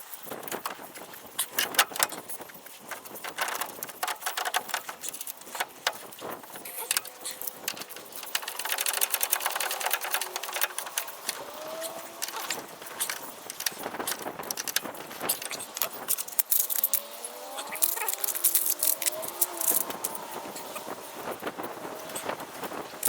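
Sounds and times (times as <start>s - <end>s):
metal tools clinking: 0.0s - 20.8s
faint squeaky gliding tones: 0.0s - 23.0s.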